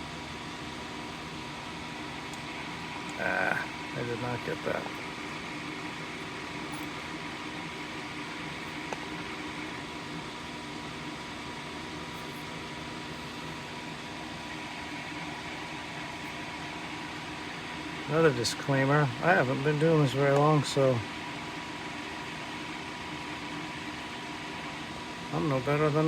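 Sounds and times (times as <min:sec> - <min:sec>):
ventilation hum and hiss: 0:00.0 - 0:26.0.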